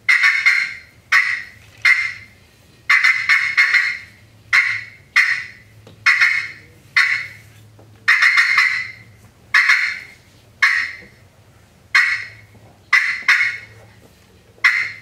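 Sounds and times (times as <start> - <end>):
turkey call clucks: 0.0 - 2.3, 2.9 - 11.2, 12.0 - 13.9, 14.5 - 15.0.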